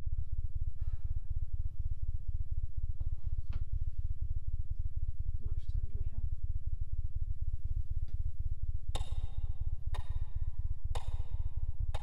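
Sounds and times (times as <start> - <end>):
steady low pulse: 0.0 - 12.0.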